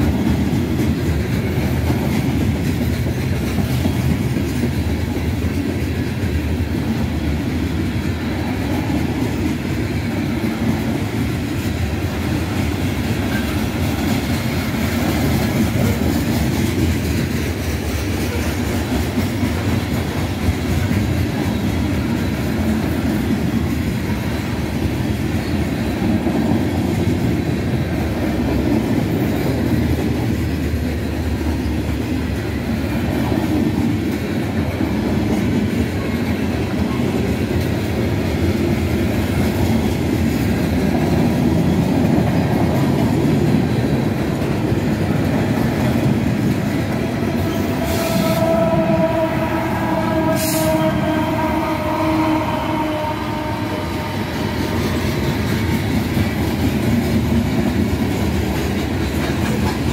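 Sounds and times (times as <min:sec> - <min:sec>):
freight train wheels on rails: 0:00.0 - 0:59.9.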